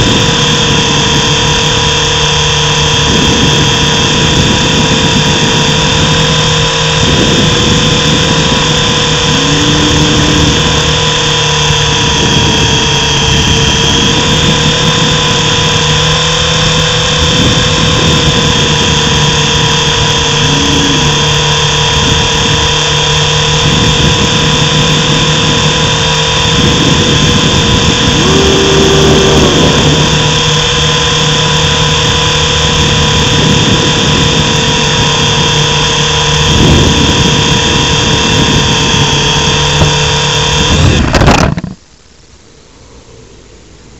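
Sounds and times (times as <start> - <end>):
small helicopter motor whining: 0.0 - 41.1.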